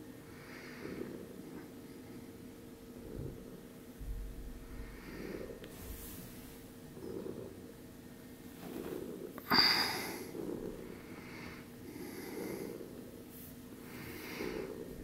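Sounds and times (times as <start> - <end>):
soft breathing: 0.2 - 15.0.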